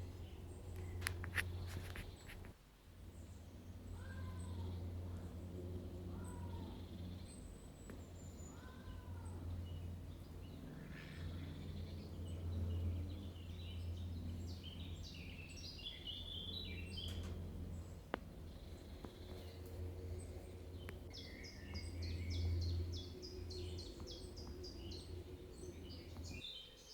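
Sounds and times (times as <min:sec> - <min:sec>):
steady low hum: 0:00.0 - 0:26.6
birds chirping: 0:00.0 - 0:26.9.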